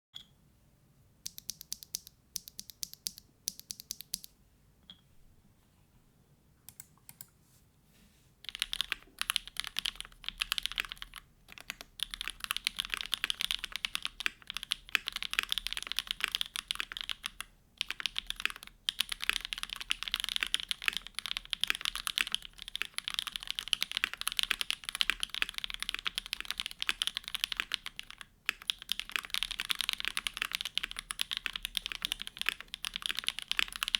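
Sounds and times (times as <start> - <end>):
typing on mechanical keyboard: 1.3 - 4.3, 8.4 - 33.9.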